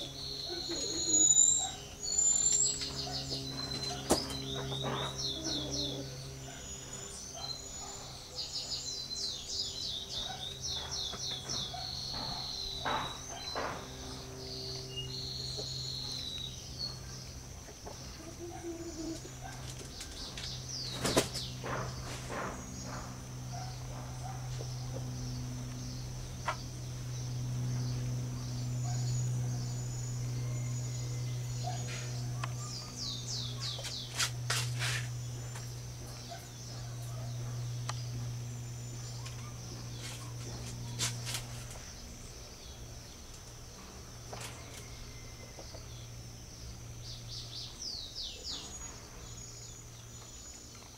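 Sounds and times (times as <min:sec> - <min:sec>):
small birds chirping: 0:00.0 - 0:50.9
steady low hum: 0:00.0 - 0:50.9.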